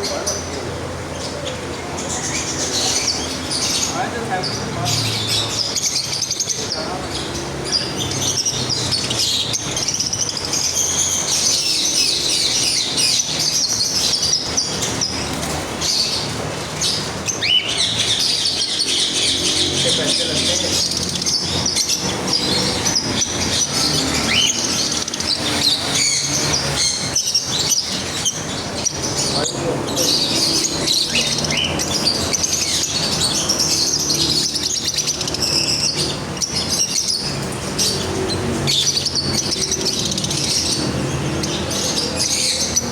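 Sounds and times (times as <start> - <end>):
birds chirping in chorus: 0.0 - 42.9.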